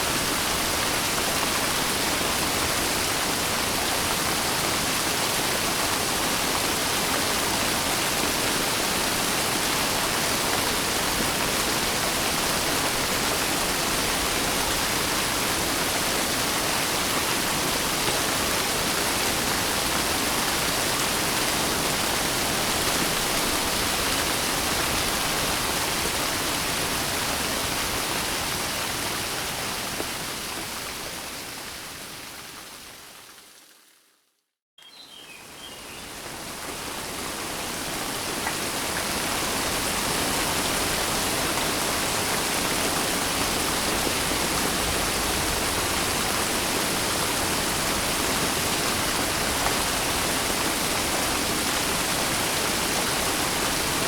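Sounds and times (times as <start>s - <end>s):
steady rain: 0.0s - 34.1s, 35.3s - 54.0s.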